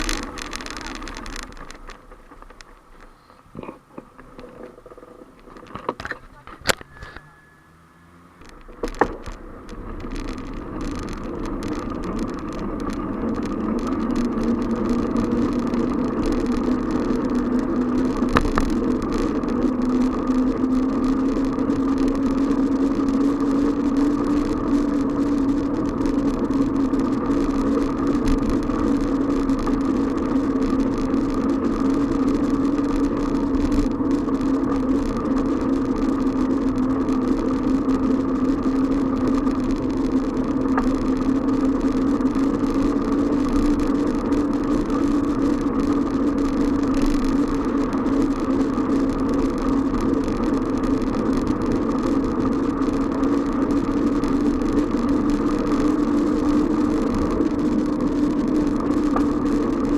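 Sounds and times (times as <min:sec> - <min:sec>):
bicycle click: 0:00.0 - 0:07.3, 0:08.4 - 0:59.9
bicycle riding noise: 0:00.0 - 0:59.9.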